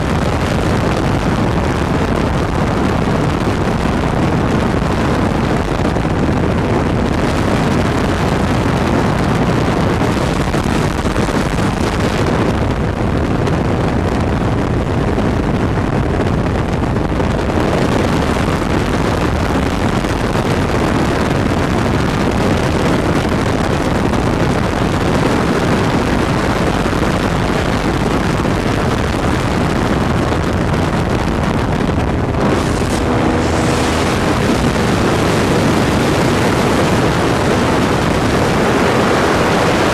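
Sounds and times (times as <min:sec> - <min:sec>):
light aircraft engine: 0:00.0 - 0:39.9
wind rushing over microphone: 0:00.0 - 0:39.9.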